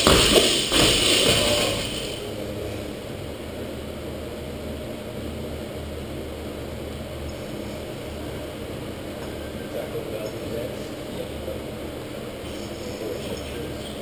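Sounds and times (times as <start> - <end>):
low ventilation hum: 0.0 - 14.0.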